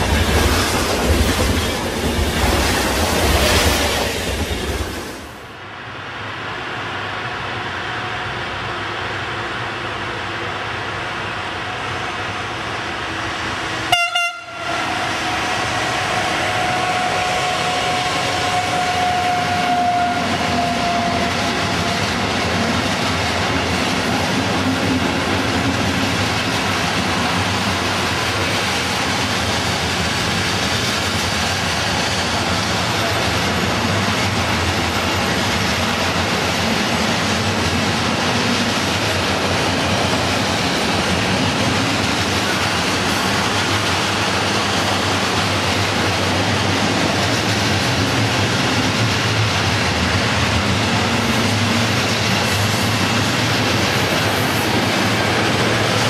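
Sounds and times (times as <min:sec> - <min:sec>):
freight train wagons rumbling: 0:00.0 - 0:05.6, 0:09.4 - 0:56.0.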